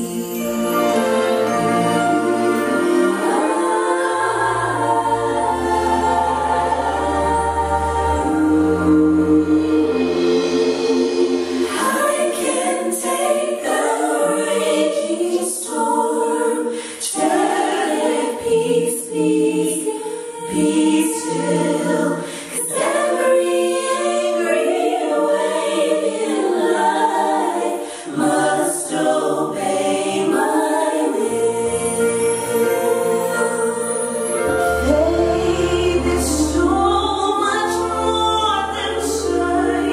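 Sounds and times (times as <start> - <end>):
women singing in harmony: 0.0 - 39.9.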